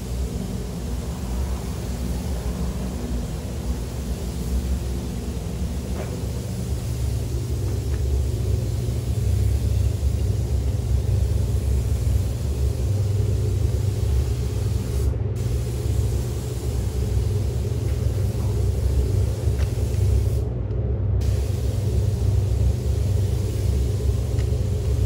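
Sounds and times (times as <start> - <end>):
spray gun hiss: 0.0 - 20.5, 21.2 - 25.0.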